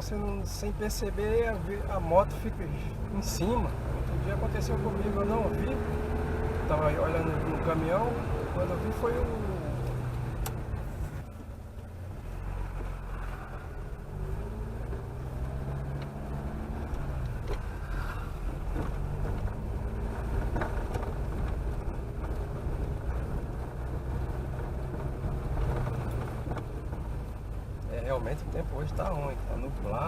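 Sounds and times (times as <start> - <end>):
car engine running: 0.0 - 30.0
road noise: 0.0 - 30.0.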